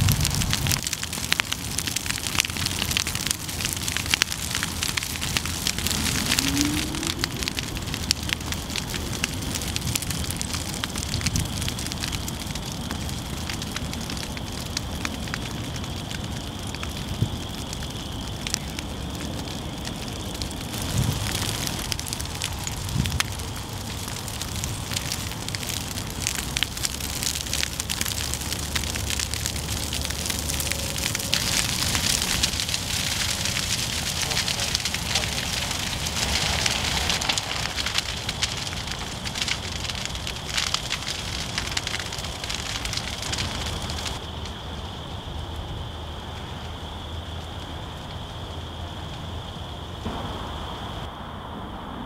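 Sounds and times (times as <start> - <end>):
grass fire crackling: 0.0 - 51.1.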